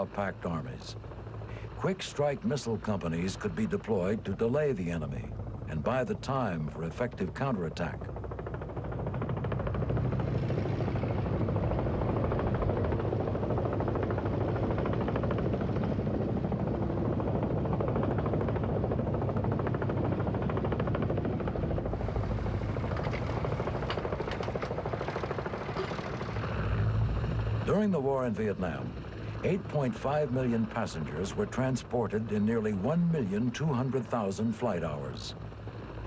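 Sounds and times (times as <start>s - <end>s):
helicopter engine rumble: 0.0s - 36.0s
helicopter rotor blade chop: 0.0s - 36.0s.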